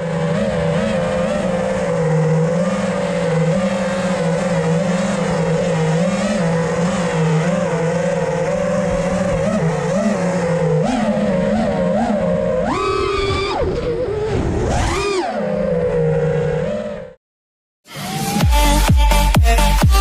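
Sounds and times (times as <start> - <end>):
quadcopter motors whining: 0.0 - 17.2, 17.9 - 18.9.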